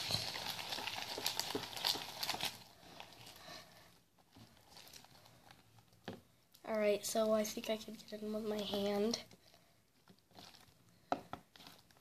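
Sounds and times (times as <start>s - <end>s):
crackling handling sounds: 0.0s - 12.0s.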